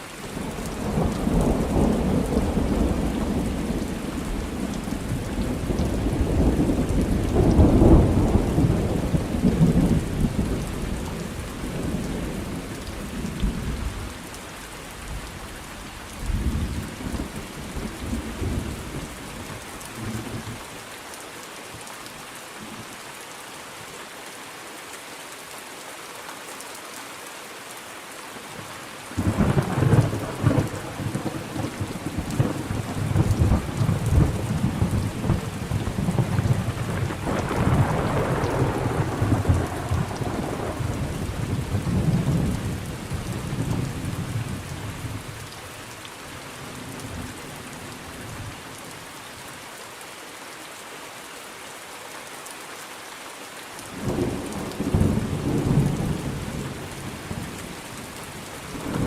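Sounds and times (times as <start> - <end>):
rain: 0.0 - 59.0.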